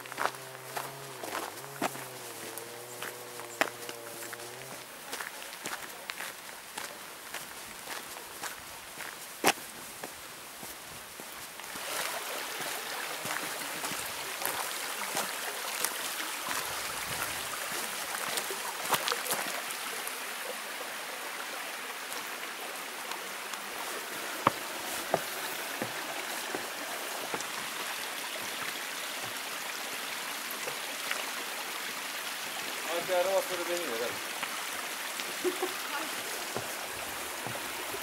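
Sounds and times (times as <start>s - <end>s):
mountain stream running: 0.0s - 38.0s.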